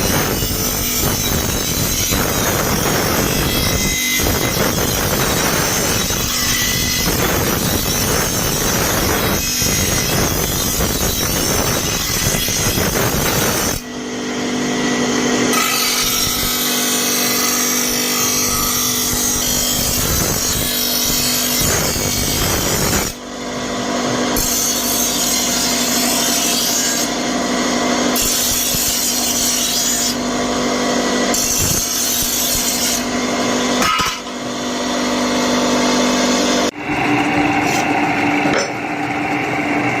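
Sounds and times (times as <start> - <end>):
power grinder grinding metal: 0.0 - 39.3.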